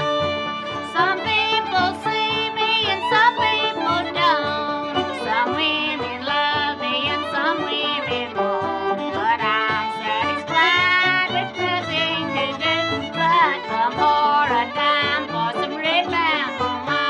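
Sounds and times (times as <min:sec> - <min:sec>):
accompanying instruments: 0:00.0 - 0:17.0
fiddle melody: 0:00.0 - 0:17.0.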